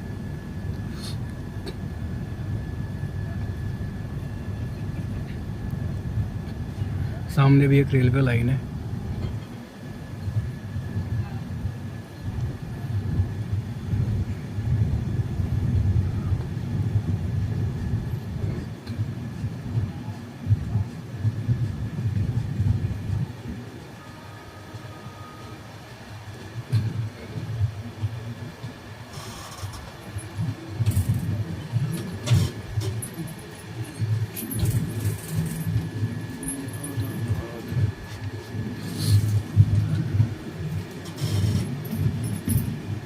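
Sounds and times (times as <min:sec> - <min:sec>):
faint steady whine: 0:00.0 - 0:43.0
train rumbling on tracks: 0:00.0 - 0:43.0.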